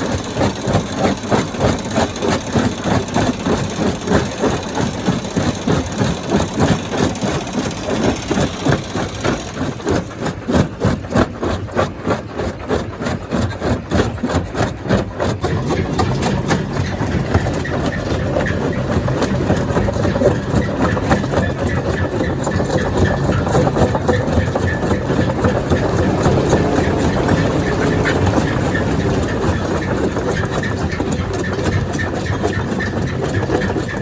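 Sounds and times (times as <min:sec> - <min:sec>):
stone crusher machinery pulsing: 0:00.0 - 0:34.0.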